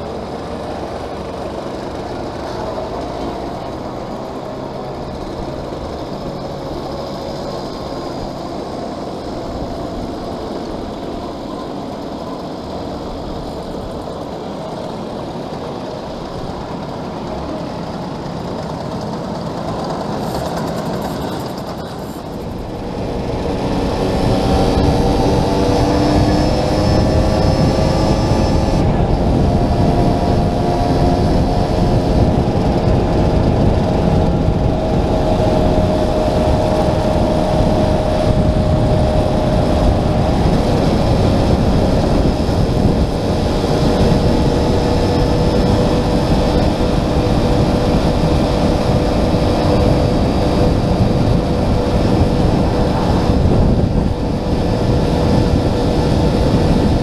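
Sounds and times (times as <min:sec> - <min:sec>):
moped engine running: 0:00.0 - 0:57.0
wind rumble: 0:00.0 - 0:57.0.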